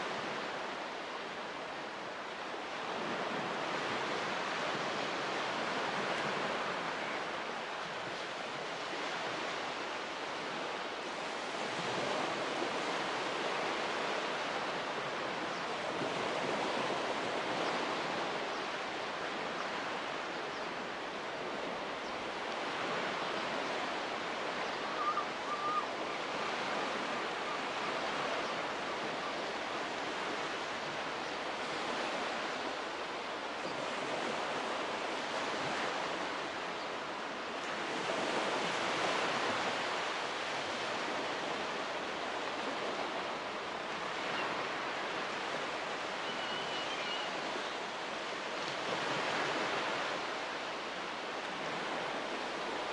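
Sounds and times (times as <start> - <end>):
ocean surf washing onto beach: 0.0 - 46.4, 47.2 - 52.9.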